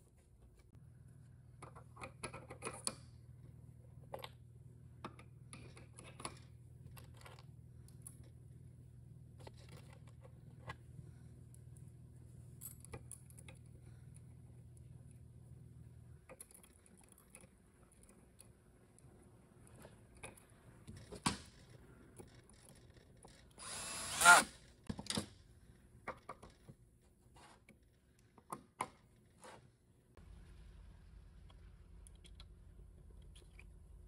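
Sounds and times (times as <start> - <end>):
low steady hum: 0.0 - 24.4, 29.9 - 34.0.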